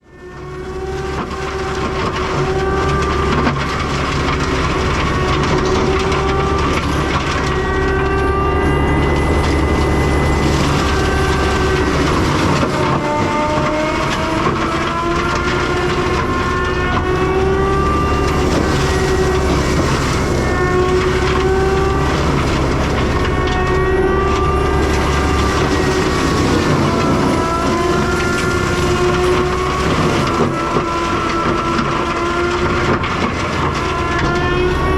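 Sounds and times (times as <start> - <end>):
diesel engine drone: 0.0 - 34.9
mulcher whine wavering in pitch: 0.0 - 34.9.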